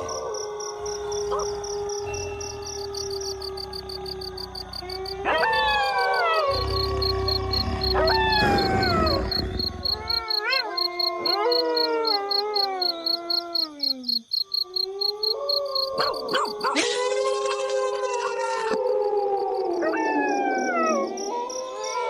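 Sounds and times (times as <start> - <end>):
wolves howling: 0.0 - 13.8, 14.7 - 22.0.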